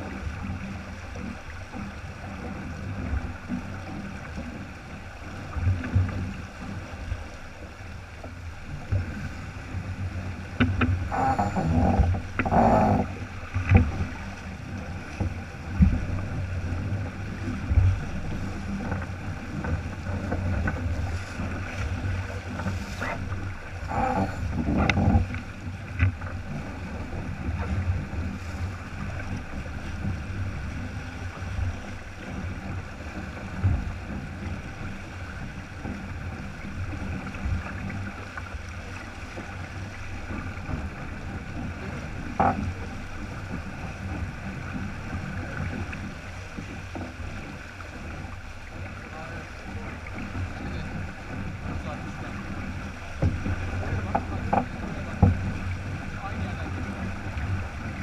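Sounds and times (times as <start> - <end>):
water rushing along a hull: 0.0 - 58.0.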